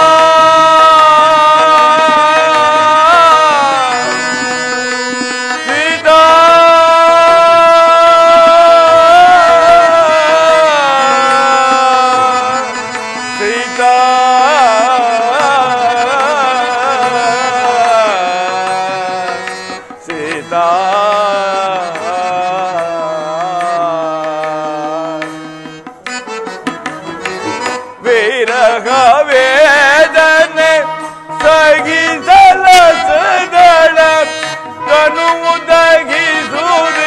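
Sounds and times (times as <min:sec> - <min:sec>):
tabla strokes: 0:00.0 - 0:37.0.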